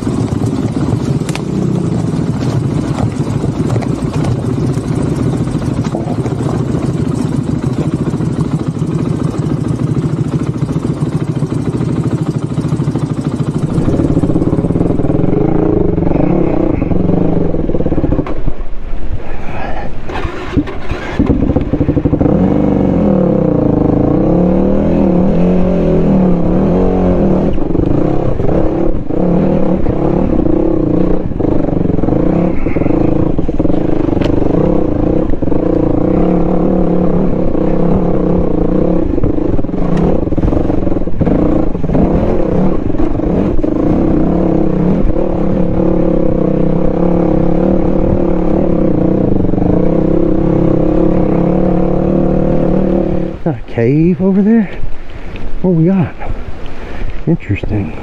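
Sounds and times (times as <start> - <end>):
motorcycle engine running: 0.0 - 19.2, 20.1 - 58.0.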